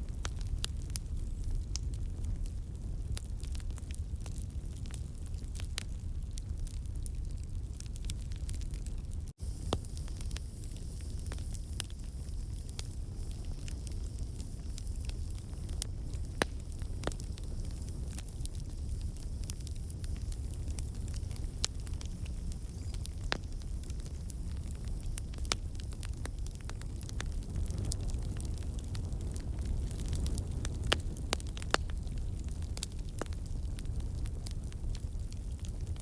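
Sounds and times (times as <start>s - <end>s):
campfire low rumble: 0.0s - 36.0s
fire crackles and pops: 0.0s - 36.0s.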